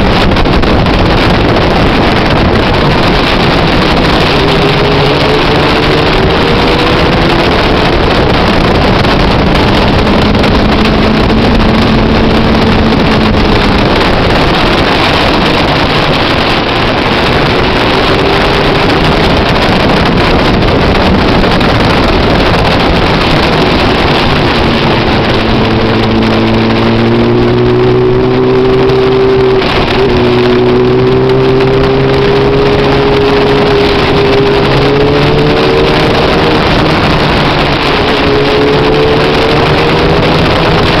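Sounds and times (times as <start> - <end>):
motorcycle engine running: 0.0 - 41.0
wind noise on microphone: 0.0 - 41.0.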